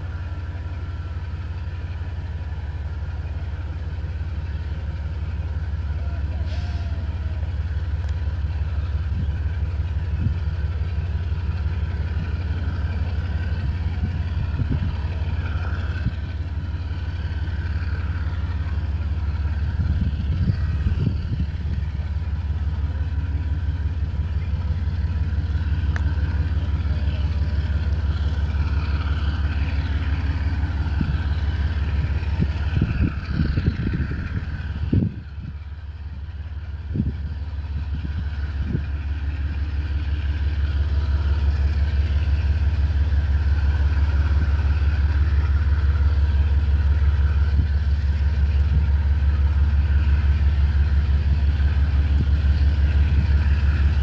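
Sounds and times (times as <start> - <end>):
diesel locomotive engines rumbling: 0.0 - 54.0.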